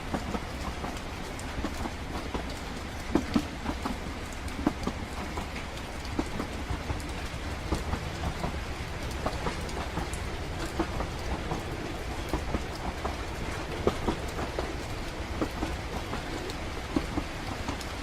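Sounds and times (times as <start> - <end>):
rain pattering: 0.0 - 18.0
train carriage rumble and clatter: 0.0 - 18.0.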